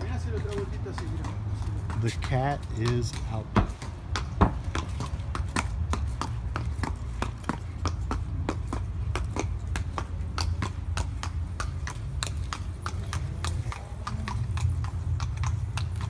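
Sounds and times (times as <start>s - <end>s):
hooves clip-clopping on hard ground: 0.0s - 16.0s.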